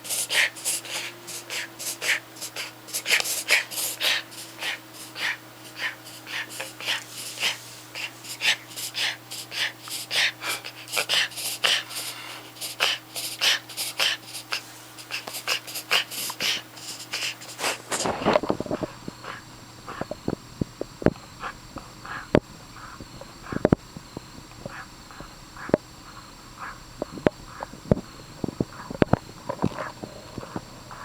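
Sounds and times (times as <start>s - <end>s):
puppy rapid noisy breathing: 0.0s - 31.0s.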